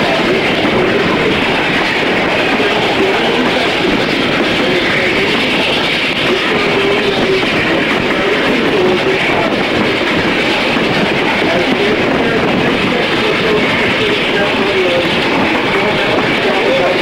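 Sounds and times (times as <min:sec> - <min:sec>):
train wheel and track noise: 0:00.0 - 0:17.0
wind: 0:00.0 - 0:17.0.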